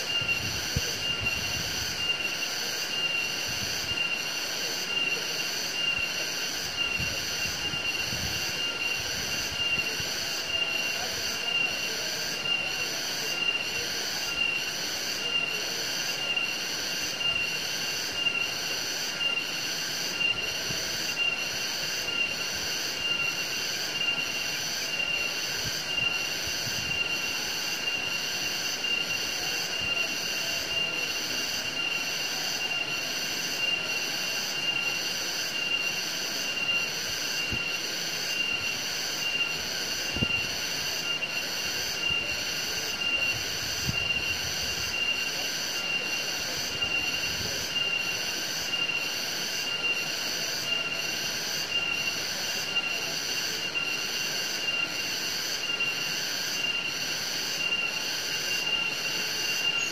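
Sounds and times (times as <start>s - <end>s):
insect chorus whining: 0.0s - 59.9s.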